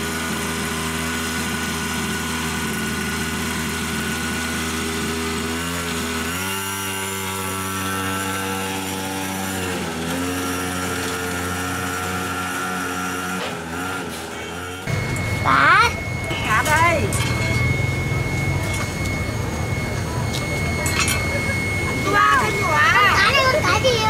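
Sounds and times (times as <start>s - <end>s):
small motorbike engine running: 0.0s - 24.0s.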